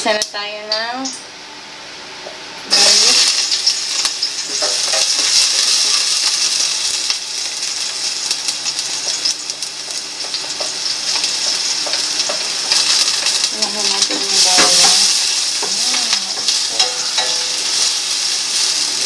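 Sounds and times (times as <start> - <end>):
garlic sizzling in hot oil: 2.4 - 19.0.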